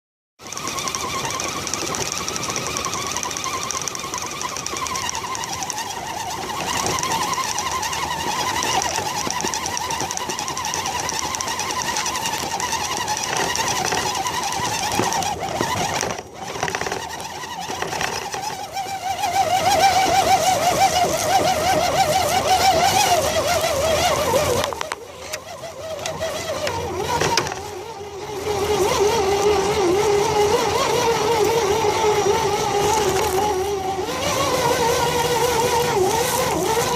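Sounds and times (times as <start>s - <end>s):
toy car motor whining: 0.4s - 36.9s.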